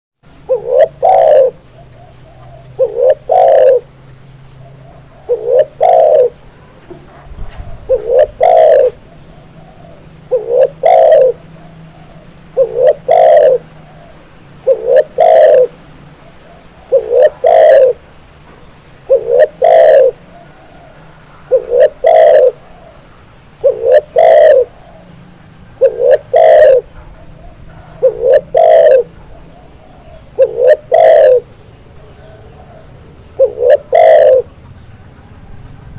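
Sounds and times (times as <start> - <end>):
dove cooing: 0.3 - 18.2, 19.0 - 34.6.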